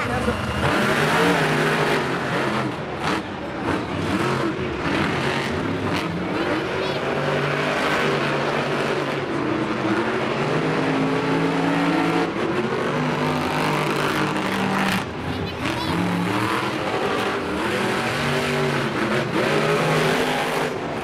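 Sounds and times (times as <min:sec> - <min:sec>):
monster truck engines revving: 0:00.0 - 0:21.0.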